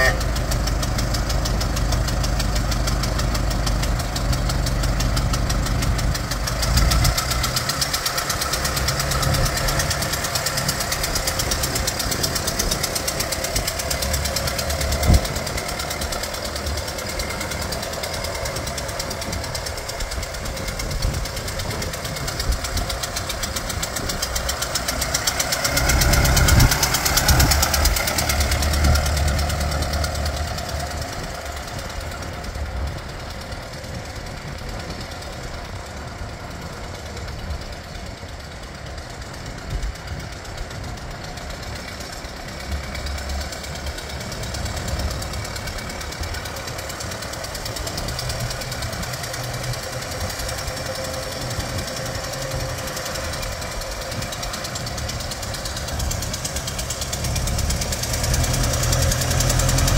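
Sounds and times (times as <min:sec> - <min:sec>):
car engine putter: 0:00.0 - 0:59.9.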